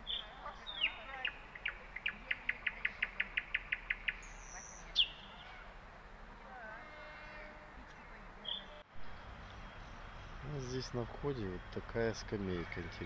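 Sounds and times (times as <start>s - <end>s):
songbirds calling: 0.0s - 13.0s.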